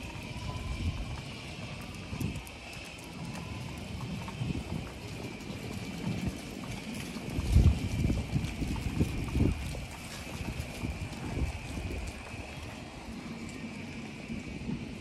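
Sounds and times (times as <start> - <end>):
footsteps on pavement: 0.0 - 15.0
wind gusting on microphone: 0.0 - 15.0.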